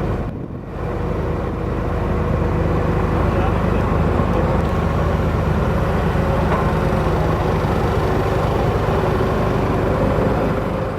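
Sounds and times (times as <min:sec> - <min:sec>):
heavy diesel engine running: 0:00.0 - 0:10.9.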